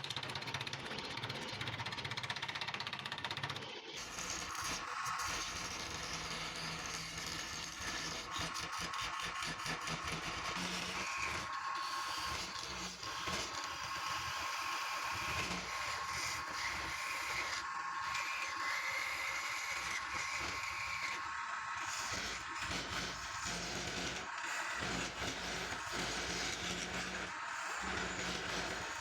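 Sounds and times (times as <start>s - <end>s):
turning tool cutting wood: 3.3s - 29.0s
wood lathe whine: 3.4s - 29.0s.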